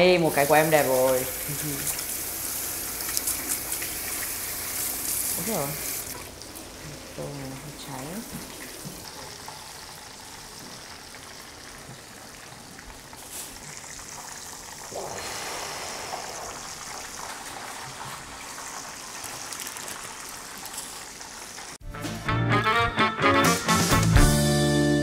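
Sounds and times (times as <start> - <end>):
oil sizzling and bubbling: 0.0 - 21.8.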